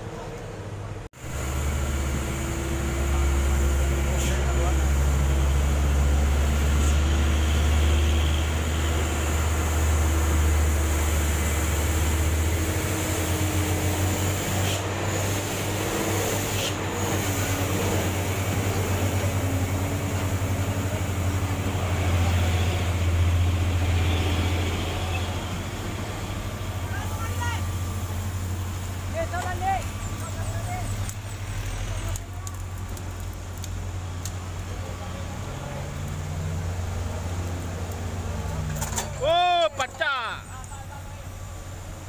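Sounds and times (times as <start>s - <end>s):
diesel engine droning: 1.2s - 42.0s.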